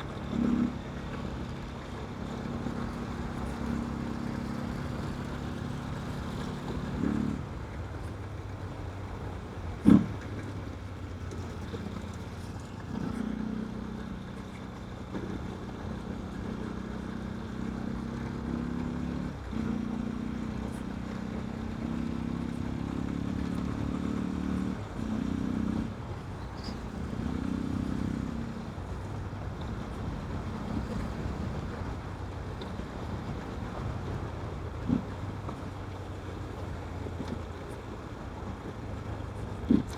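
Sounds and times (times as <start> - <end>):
motorcycle engine revving: 0.1 - 39.9.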